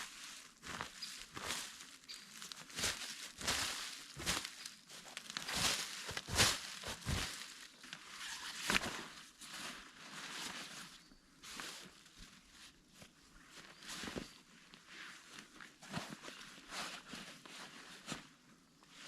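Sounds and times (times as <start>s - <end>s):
crunching and rustling on ground: 0.0s - 19.0s.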